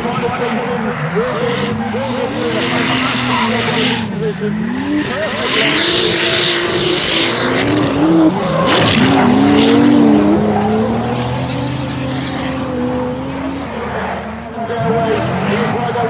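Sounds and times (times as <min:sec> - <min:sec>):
car engines revving hard: 0:00.0 - 0:16.0.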